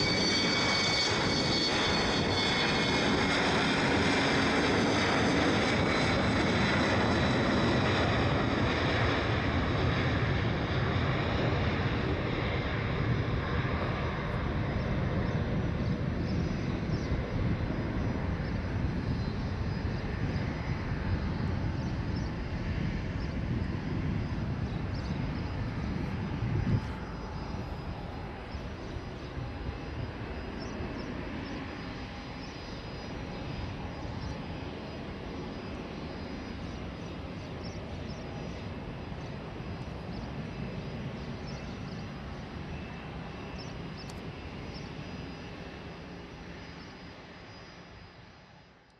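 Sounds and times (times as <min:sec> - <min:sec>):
jet engine rumble: 0:00.0 - 0:48.9.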